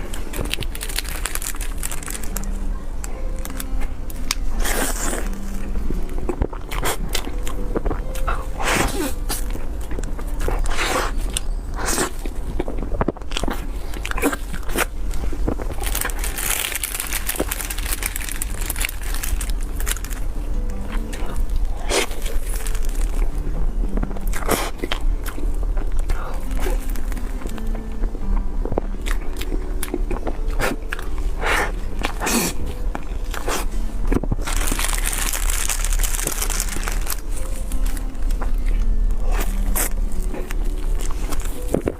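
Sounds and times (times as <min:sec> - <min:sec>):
person eating crunchy food: 0:00.0 - 0:02.7, 0:03.3 - 0:41.9.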